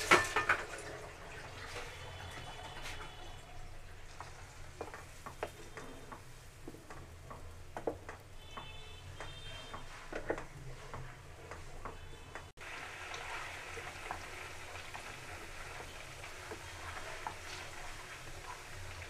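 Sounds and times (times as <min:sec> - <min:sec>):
butter sizzling: 0:00.0 - 0:19.0.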